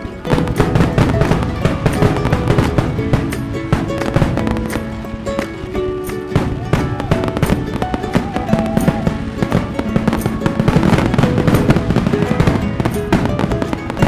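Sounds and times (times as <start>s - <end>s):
fireworks banging and crackling: 0.0s - 14.0s
music playing: 0.0s - 14.0s.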